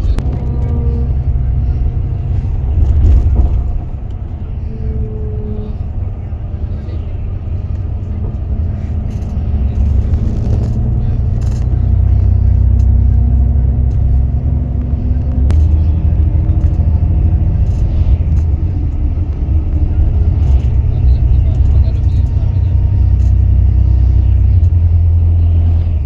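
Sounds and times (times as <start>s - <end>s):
faint engine hum: 0.0s - 26.0s
vehicle rumble in motion: 0.0s - 26.0s.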